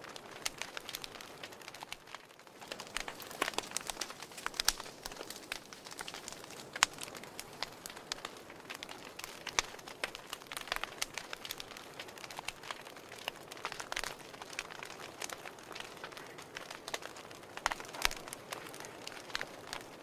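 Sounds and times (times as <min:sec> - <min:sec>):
fire crackling and popping: 0:00.0 - 0:20.0
soft steady hiss: 0:00.0 - 0:20.0.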